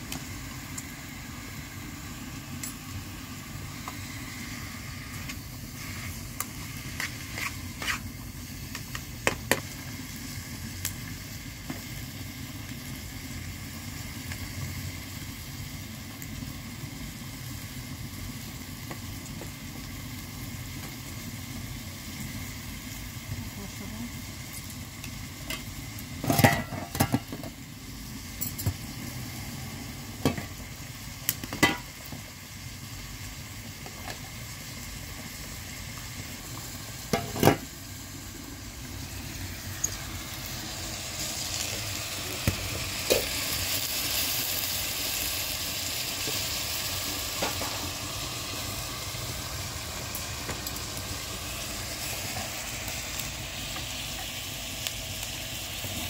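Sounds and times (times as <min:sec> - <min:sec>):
onions sizzling in a frying pan: 0:00.0 - 0:56.0.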